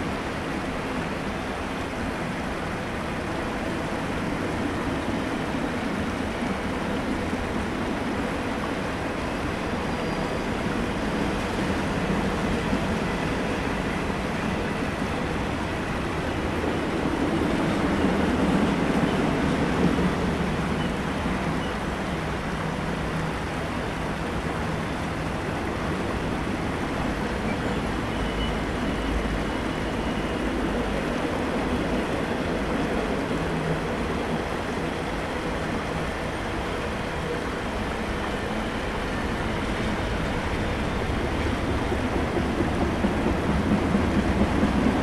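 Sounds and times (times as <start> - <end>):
freight train rolling past: 0.0 - 45.0.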